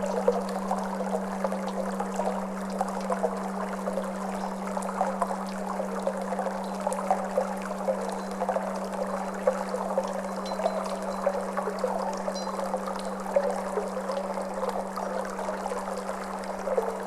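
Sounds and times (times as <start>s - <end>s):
singing bowl hum: 0.0s - 17.0s
water trickling and babbling: 0.0s - 17.0s.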